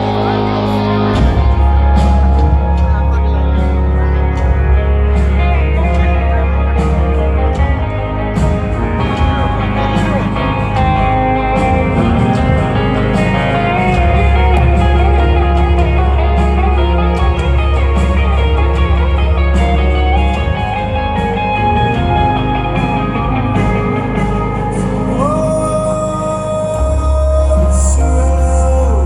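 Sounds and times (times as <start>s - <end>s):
electric guitar sustained notes: 0.0s - 29.0s
live rock band playing: 0.0s - 29.0s.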